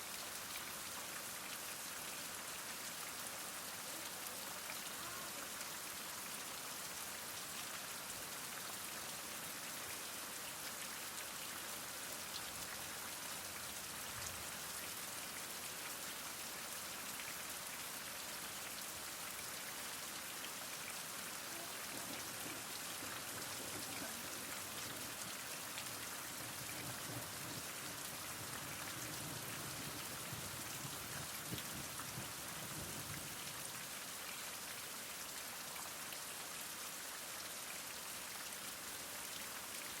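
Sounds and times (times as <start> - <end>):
heavy rain falling: 0.0 - 35.8.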